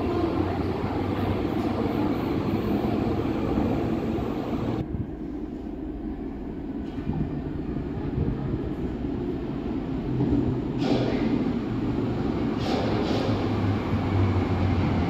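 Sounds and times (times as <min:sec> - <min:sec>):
underground train rumbling: 0:00.0 - 0:15.0.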